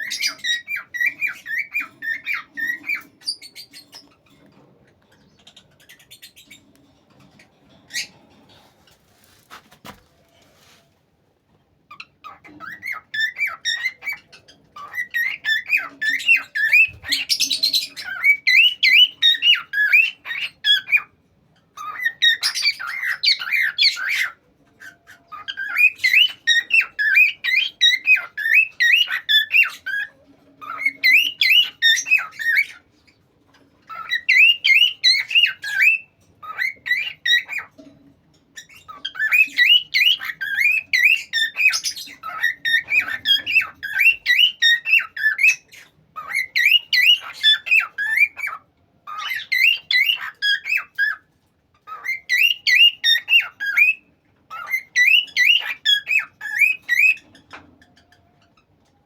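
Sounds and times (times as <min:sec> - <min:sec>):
parrot chirping and squawking: 0:00.0 - 0:09.1, 0:11.9 - 0:58.9.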